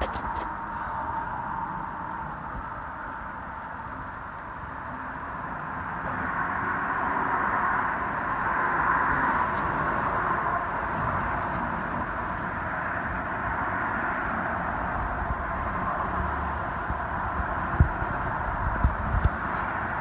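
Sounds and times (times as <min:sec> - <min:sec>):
hiss of tyres on road: 0:00.0 - 0:20.0.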